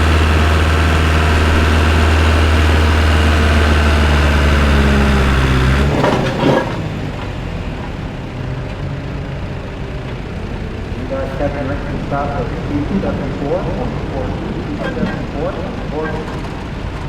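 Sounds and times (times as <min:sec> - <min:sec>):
tractor engine running hard: 0:00.0 - 0:17.0.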